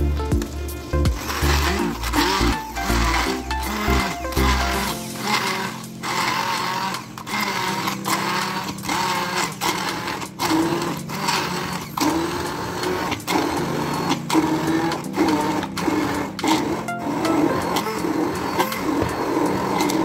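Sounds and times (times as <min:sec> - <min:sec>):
hand blender motor whirring: 0:01.0 - 0:20.0.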